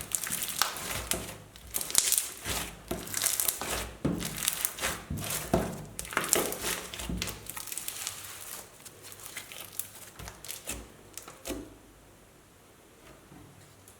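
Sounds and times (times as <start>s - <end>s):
crunchy slime crackling: 0.0s - 11.5s.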